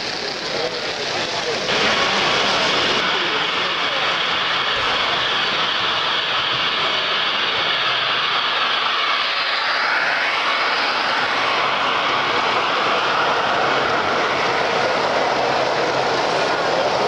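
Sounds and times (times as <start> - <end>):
model train rolling past: 0.0 - 17.0.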